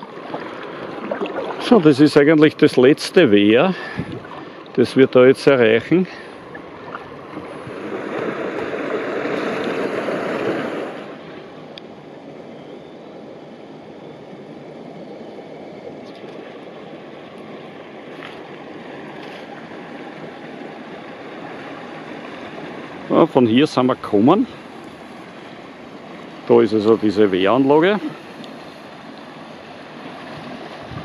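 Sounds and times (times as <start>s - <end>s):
water rushing over a weir: 0.0s - 31.0s.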